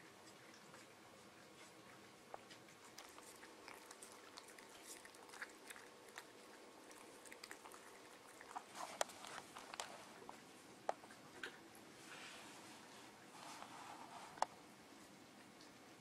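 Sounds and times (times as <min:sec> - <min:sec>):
cats chewing and licking: 0:00.0 - 0:16.0.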